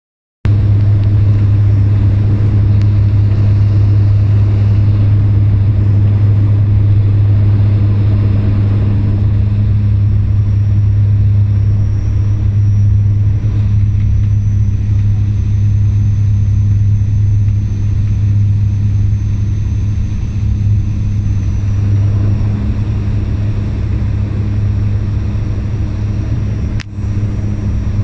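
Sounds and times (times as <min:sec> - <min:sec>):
turboprop engine drone: 0:00.4 - 0:28.0
faint high whine: 0:00.5 - 0:28.0.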